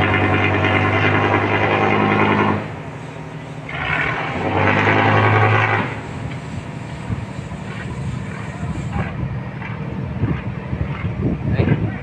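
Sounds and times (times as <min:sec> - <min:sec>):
boat engine revving: 0:00.0 - 0:11.2.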